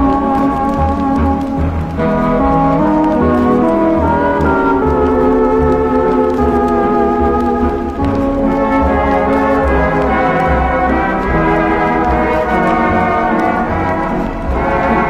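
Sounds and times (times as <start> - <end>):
orchestral brass chords: 0.0 - 15.0.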